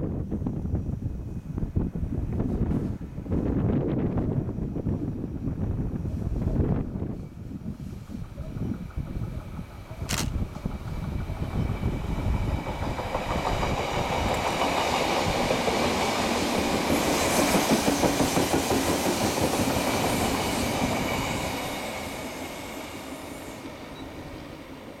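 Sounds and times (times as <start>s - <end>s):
electric train passing: 0.4s - 25.0s.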